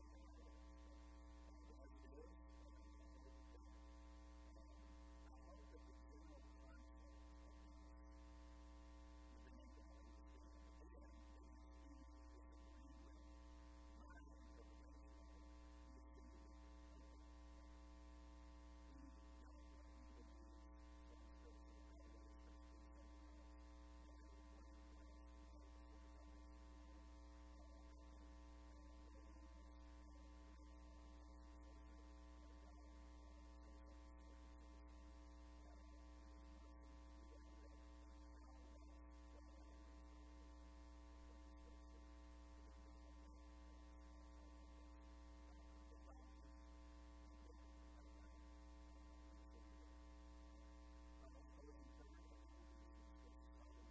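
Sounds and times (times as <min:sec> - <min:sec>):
faint steady tones: 0:00.0 - 0:53.9
low electrical hum: 0:00.0 - 0:53.9.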